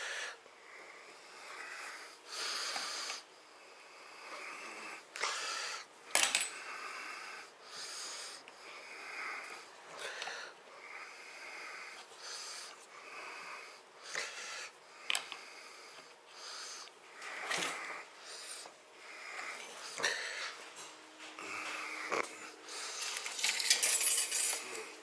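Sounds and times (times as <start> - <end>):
man wheezy breathing: 0.0 - 23.7.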